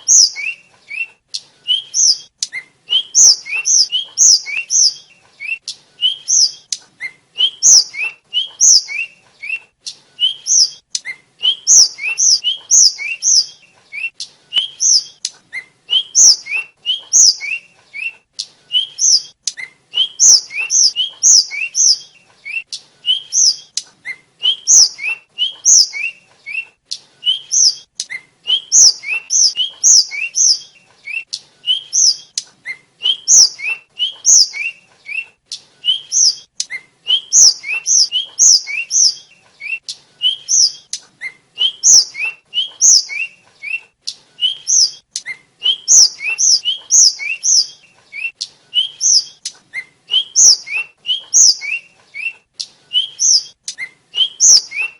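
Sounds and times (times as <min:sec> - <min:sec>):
bird whistling and clicking: 0:00.0 - 0:54.9.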